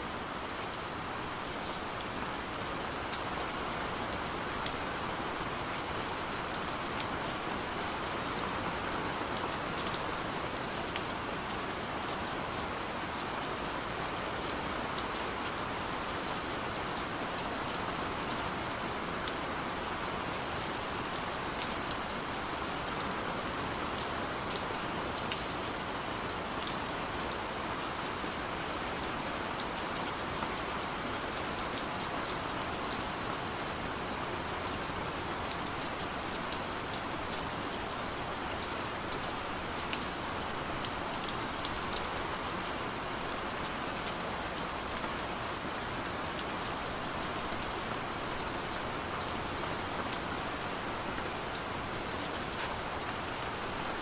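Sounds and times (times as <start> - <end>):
gentle rain falling: 0.0 - 54.0
raindrops ticking on a surface: 0.0 - 54.0.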